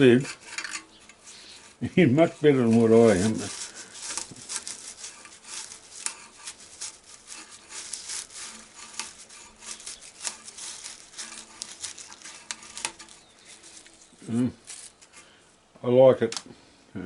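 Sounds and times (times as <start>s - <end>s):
tobacco leaves crackling and scraping: 0.0s - 15.5s.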